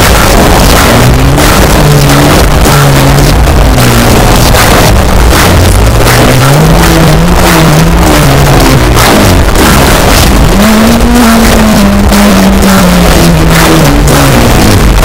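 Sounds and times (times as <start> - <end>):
distorted metal guitar riff: 0.0 - 15.0
pounding drums: 0.0 - 15.0.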